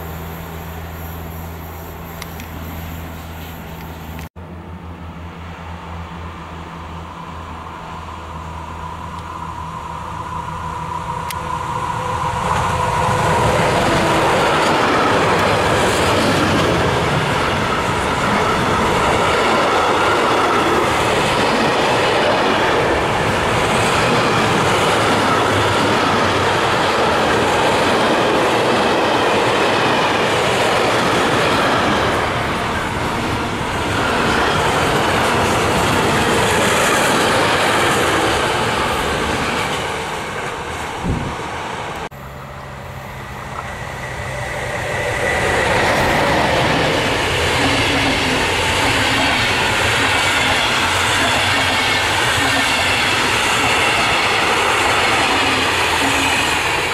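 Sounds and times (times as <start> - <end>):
freight train rolling past: 0.0 - 56.9
passenger train passing: 0.0 - 56.9.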